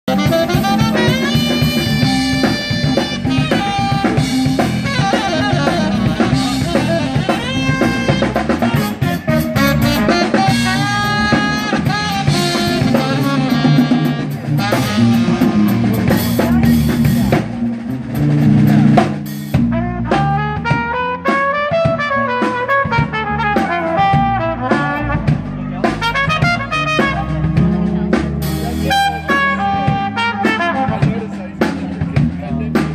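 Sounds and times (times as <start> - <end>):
electric bass: 0.0 - 32.9
drum kit with snare rimshots: 0.1 - 32.9
electric guitar: 0.1 - 32.9
saxophone lead lines: 0.1 - 32.9.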